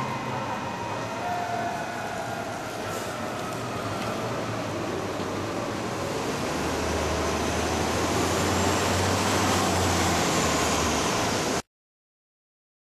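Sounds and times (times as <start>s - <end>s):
steady road noise: 0.0s - 11.7s.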